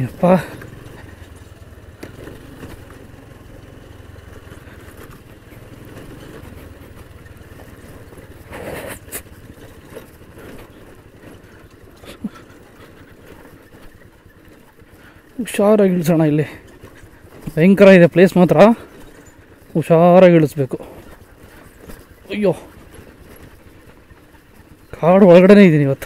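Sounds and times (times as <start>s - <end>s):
knocks and rattles from bumps: 0.0s - 26.0s
scooter engine running: 0.0s - 26.0s.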